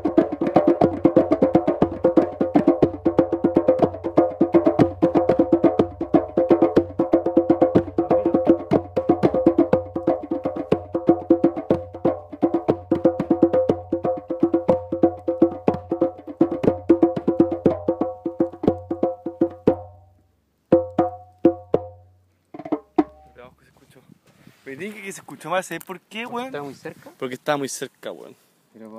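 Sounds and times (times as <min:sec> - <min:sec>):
djembes played by hand: 0:00.0 - 0:23.4.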